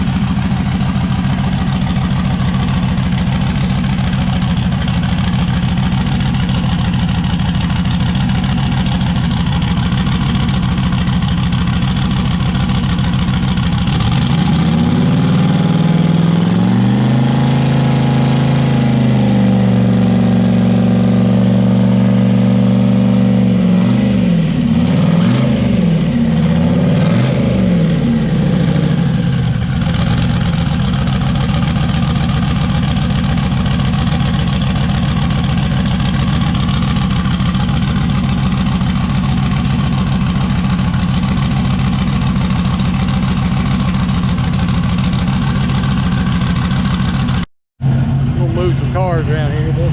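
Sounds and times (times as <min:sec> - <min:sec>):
truck engine idling and revving: 0:00.0 - 0:49.9.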